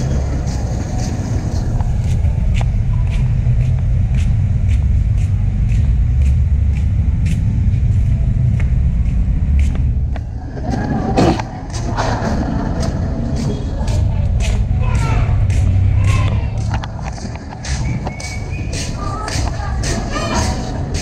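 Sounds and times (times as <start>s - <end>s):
footsteps: 0.0s - 21.0s.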